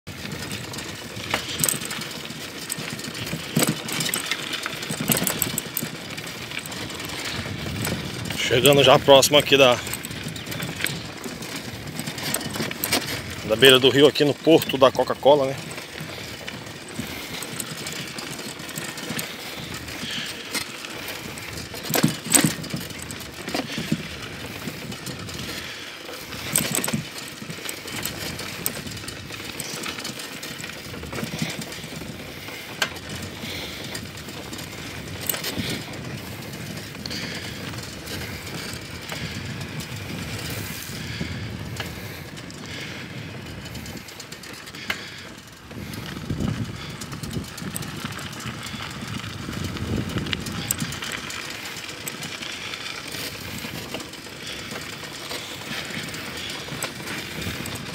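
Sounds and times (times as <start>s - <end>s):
bicycle tyres on rough dirt road: 0.0s - 57.9s
bicycle knocking over bumps: 0.1s - 57.9s.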